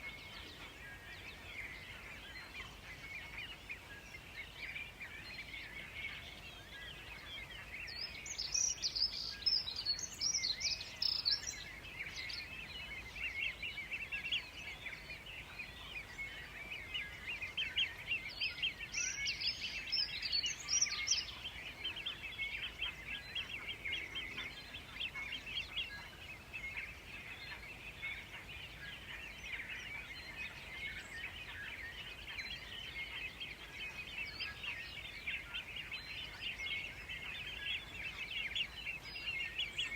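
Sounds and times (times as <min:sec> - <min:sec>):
bird song phrases: 0:00.0 - 0:39.9
birds chirping: 0:00.0 - 0:39.9.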